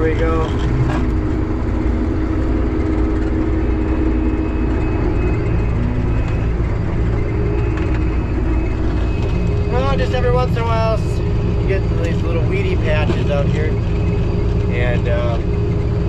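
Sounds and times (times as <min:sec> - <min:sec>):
combine harvester engine rumble: 0:00.0 - 0:16.0
threshing drives humming: 0:00.0 - 0:16.0.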